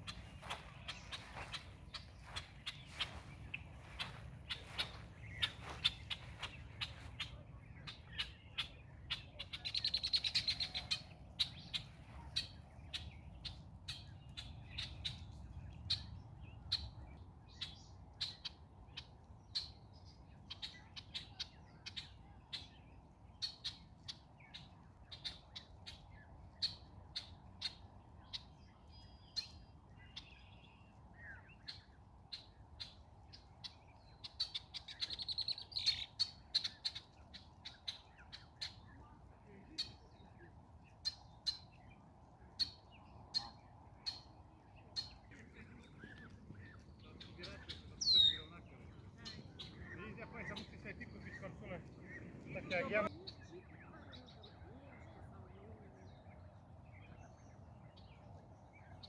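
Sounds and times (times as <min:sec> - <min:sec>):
blackbirds chipping: 0:00.0 - 0:59.0.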